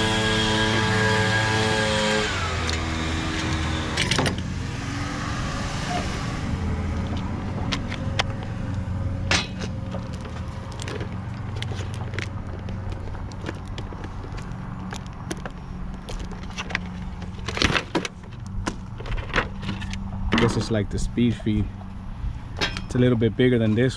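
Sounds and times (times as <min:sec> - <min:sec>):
low engine rumble: 0:00.0 - 0:23.9.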